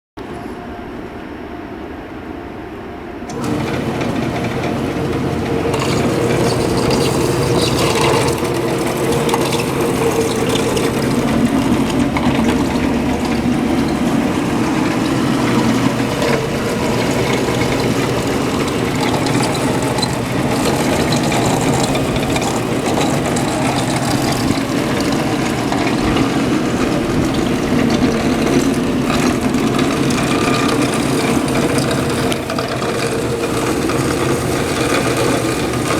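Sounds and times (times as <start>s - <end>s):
metal bandsaw running: 3.3s - 35.9s.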